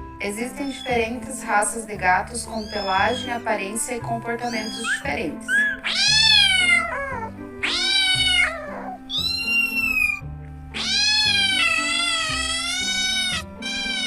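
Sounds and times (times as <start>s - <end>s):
cats meowing: 0.6s - 1.2s, 2.4s - 3.6s, 4.2s - 14.0s.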